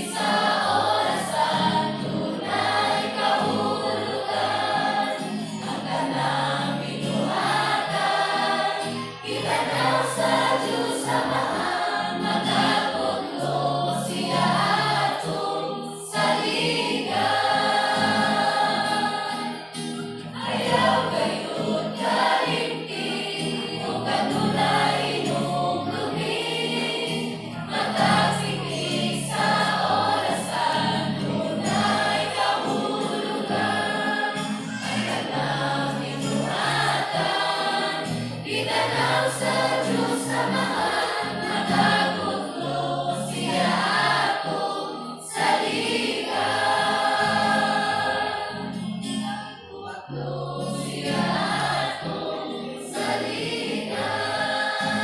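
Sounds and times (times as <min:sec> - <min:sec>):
choir of women and children singing: 0:00.0 - 0:55.0.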